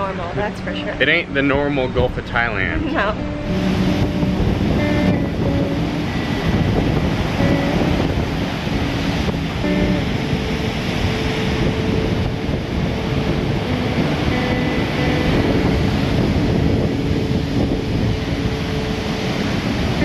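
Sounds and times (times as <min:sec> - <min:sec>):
wind buffeting microphone: 0:00.0 - 0:20.0
surf breaking on beach: 0:01.0 - 0:20.0.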